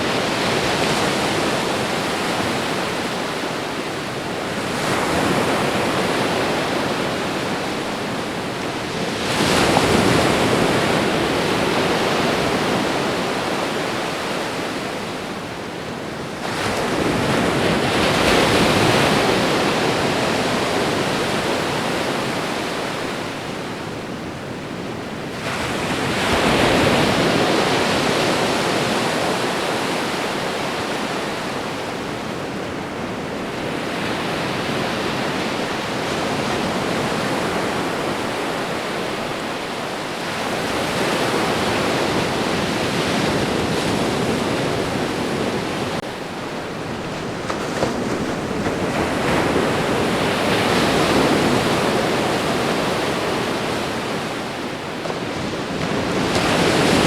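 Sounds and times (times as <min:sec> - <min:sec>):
background surf: 0:00.0 - 0:57.0
waves surging onto shore: 0:00.0 - 0:57.0.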